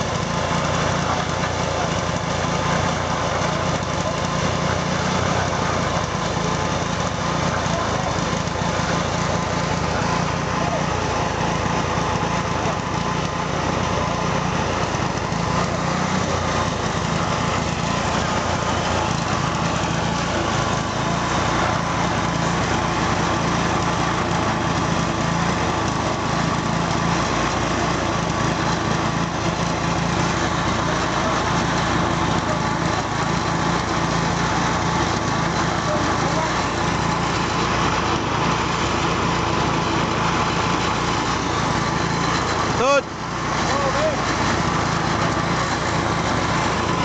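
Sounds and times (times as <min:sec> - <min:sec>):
small engine running: 0:00.0 - 0:47.0.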